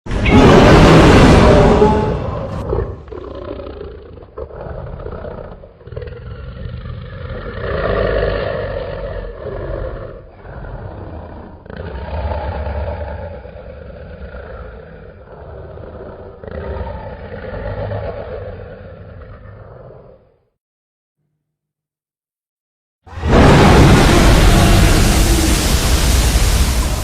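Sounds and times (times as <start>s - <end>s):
monster roar: 0.1s - 20.2s, 23.1s - 27.0s.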